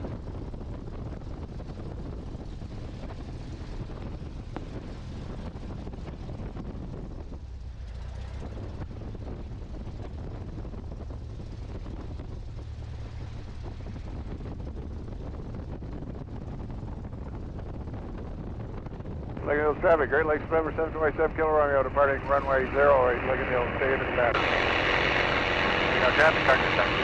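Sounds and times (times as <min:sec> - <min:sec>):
biplane piston engine running: 0:00.0 - 0:27.0.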